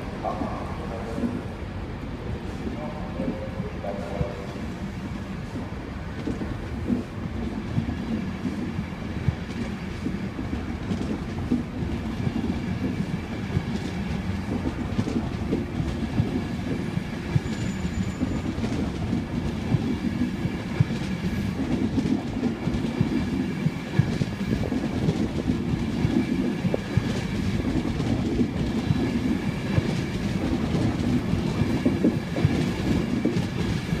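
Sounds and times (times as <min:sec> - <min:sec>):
train wheels clicking over rail joints: 0:04.2 - 0:34.0.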